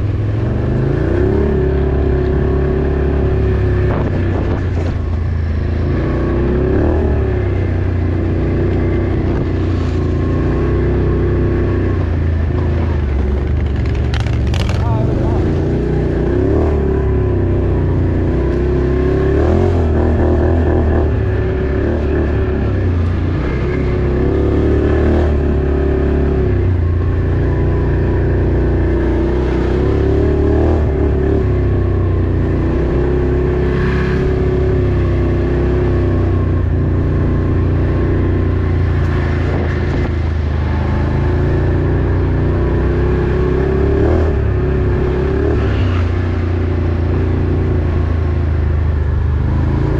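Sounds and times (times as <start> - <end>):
off-road vehicle engine revving: 0.0 - 49.9.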